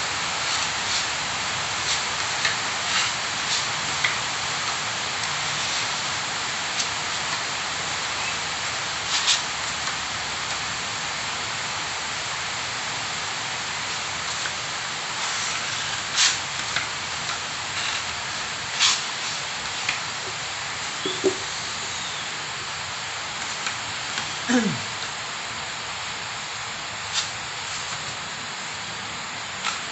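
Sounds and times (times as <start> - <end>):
steady hiss: 0.0 - 29.9.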